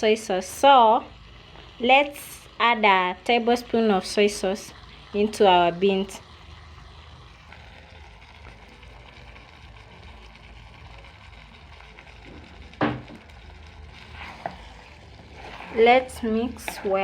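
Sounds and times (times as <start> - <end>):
pot of beans simmering: 0.0 - 17.0.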